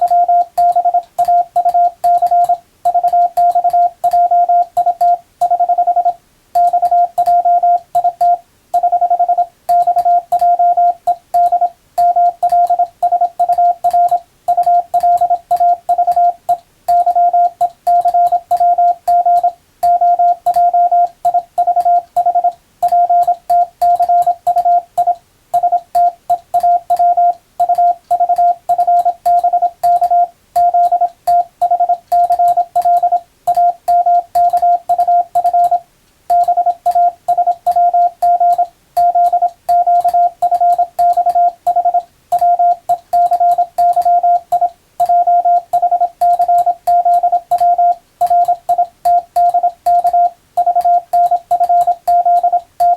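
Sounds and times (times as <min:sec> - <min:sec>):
morse code tone: 0:00.0 - 0:52.9.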